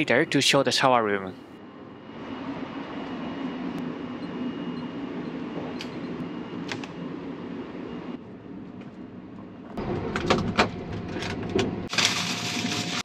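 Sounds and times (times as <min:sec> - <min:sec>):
train running low rumble: 0:01.2 - 0:13.0.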